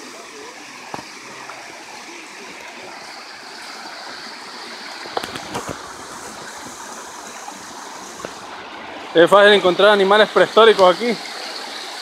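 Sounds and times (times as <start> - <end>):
stream running over cascades: 0.0 - 12.0.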